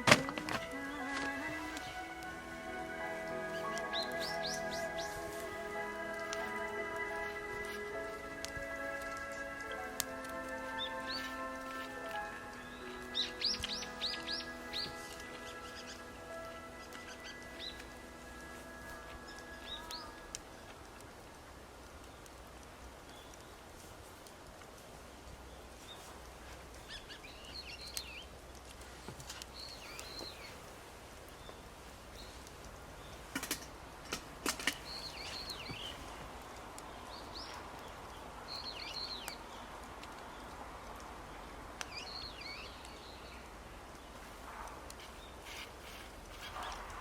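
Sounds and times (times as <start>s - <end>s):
birds chirping: 0.0s - 23.8s, 25.0s - 47.0s.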